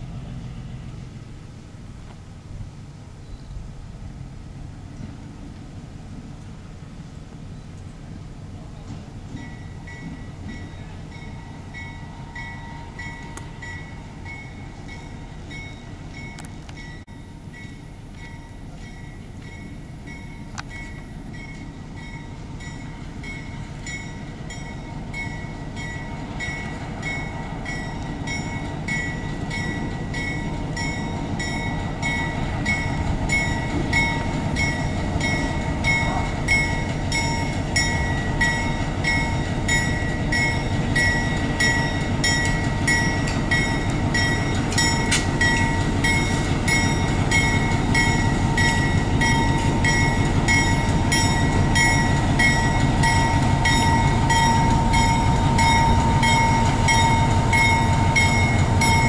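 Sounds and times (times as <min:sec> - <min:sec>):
diesel locomotive engine rumble: 0:00.0 - 0:59.0
locomotive bell ringing: 0:08.8 - 0:59.0.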